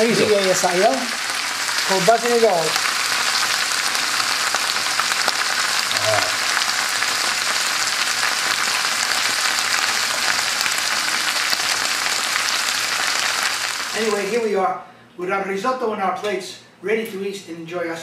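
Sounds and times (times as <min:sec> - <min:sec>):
risotto sizzling in a frying pan: 0:00.0 - 0:14.4.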